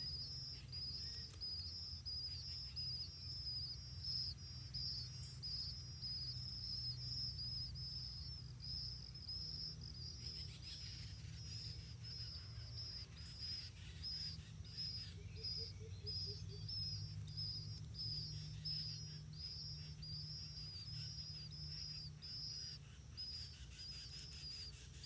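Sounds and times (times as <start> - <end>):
bird chirping: 0.0 - 25.0
low steady rumble: 0.0 - 25.0.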